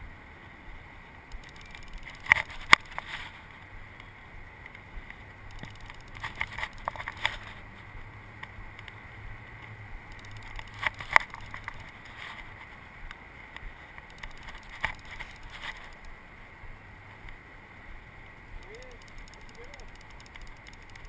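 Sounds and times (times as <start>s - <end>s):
distant traffic hum: 0.0s - 21.0s.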